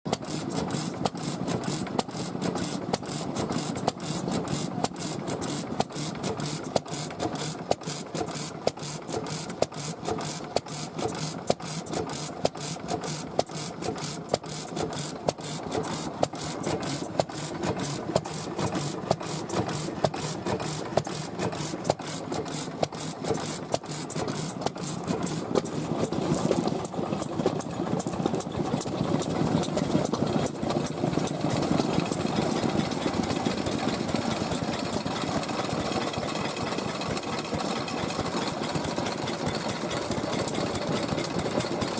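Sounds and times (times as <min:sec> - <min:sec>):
stationary engines chugging at idle: 0:00.1 - 0:41.9.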